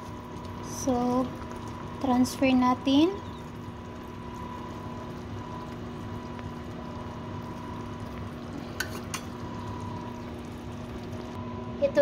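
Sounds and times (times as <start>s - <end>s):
sauce bubbling in a wok: 0.0s - 11.6s
low hum: 0.0s - 11.8s.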